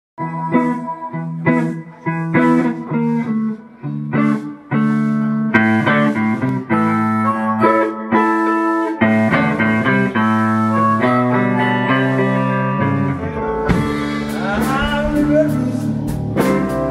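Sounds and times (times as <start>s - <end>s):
blues band playing: 0.2s - 16.9s
blues harmonica: 0.2s - 16.9s
electric guitar: 0.2s - 16.9s.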